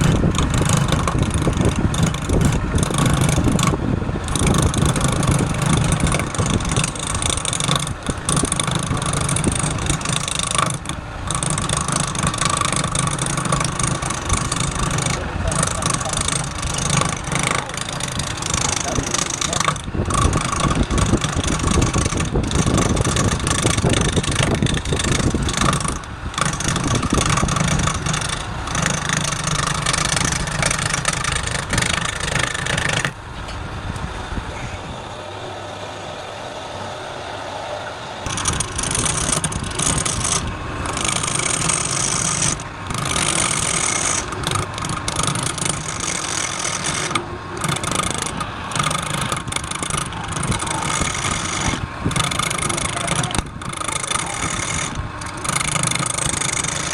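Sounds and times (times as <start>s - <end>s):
wood lathe cutting wood: 0.0s - 33.2s, 34.5s - 56.9s.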